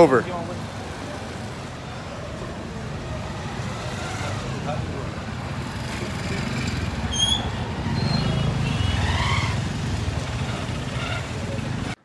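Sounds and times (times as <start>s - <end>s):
low traffic rumble: 0.0s - 12.0s
motorcycle and car engines: 0.0s - 12.0s.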